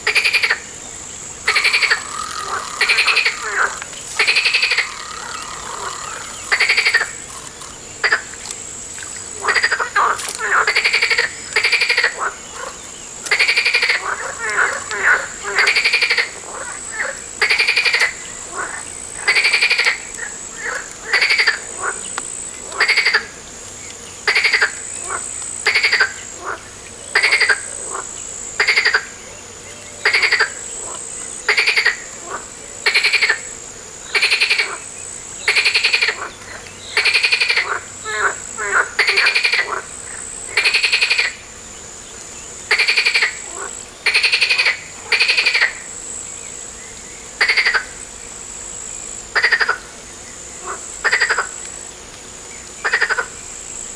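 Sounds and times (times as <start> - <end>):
frog croaking: 0.0 - 23.4, 24.2 - 29.2, 30.0 - 33.5, 34.1 - 41.4, 42.7 - 45.9, 47.4 - 48.0, 49.3 - 49.9, 50.6 - 51.6, 52.8 - 53.4.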